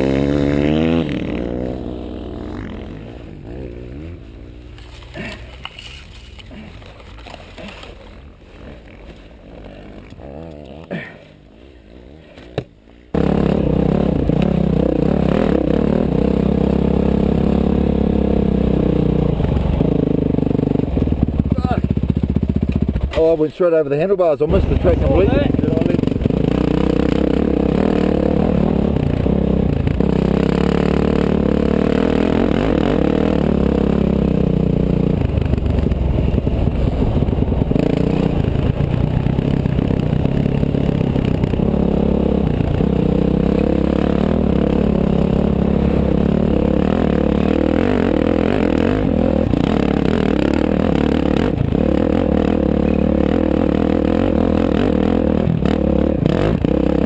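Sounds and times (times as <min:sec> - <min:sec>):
dirt bike engine revving: 0:00.0 - 0:06.4, 0:07.0 - 0:57.0.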